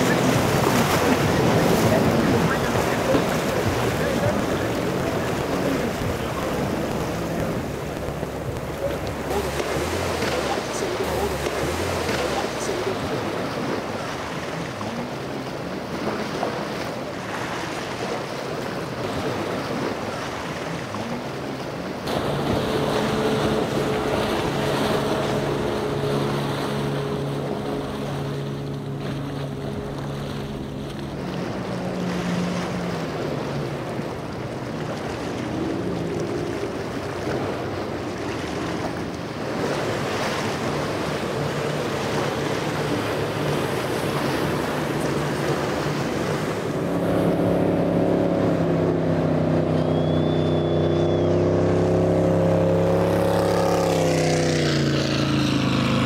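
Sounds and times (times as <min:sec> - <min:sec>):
boat engines droning: 0:00.0 - 0:56.0
surf breaking: 0:00.0 - 0:56.0.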